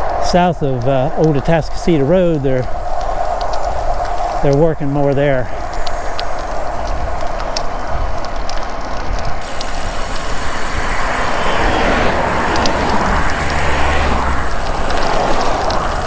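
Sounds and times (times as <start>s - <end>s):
bike tyre noise on road: 0.0s - 16.0s
wind rushing over microphone: 0.0s - 16.0s.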